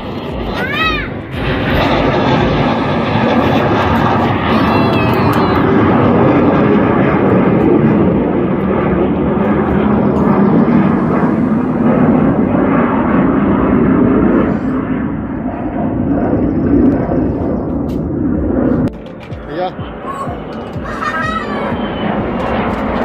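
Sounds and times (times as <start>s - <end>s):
jet engines roaring overhead: 0.0s - 23.0s.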